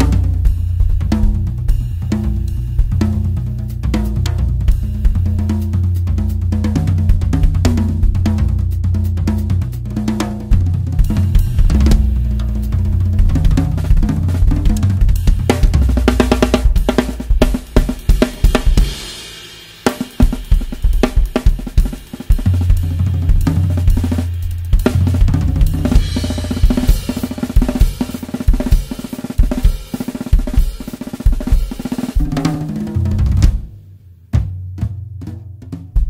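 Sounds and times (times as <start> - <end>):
acoustic drum kit beat: 0.0 - 36.0.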